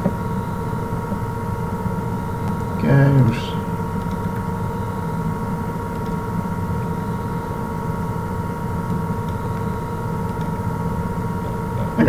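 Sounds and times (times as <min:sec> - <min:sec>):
machine hum with fixed tones: 0:00.0 - 0:12.0.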